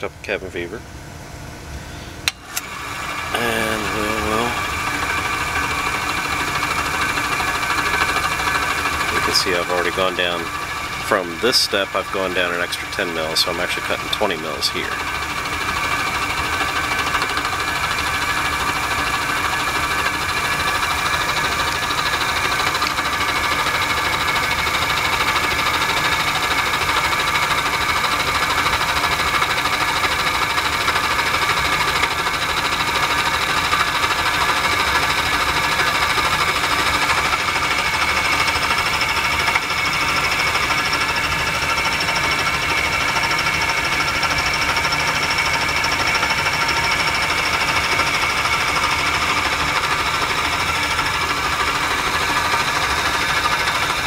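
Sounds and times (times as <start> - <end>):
milling machine cutting whine: 0.0 - 54.0.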